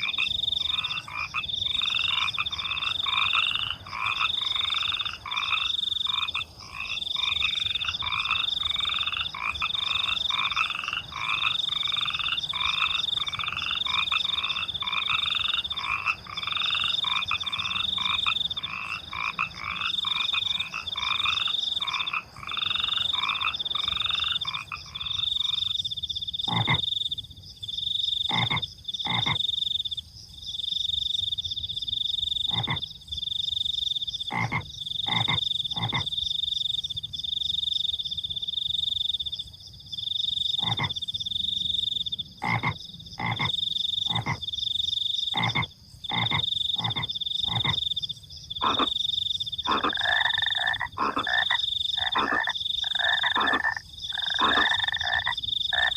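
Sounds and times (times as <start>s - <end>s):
crickets trilling: 0.0s - 55.9s
frogs croaking: 0.0s - 55.9s.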